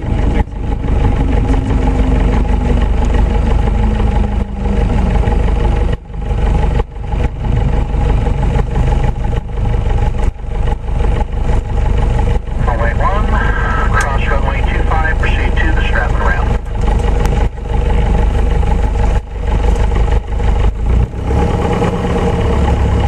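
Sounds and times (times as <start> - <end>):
airplane engine droning: 0.0 - 23.0.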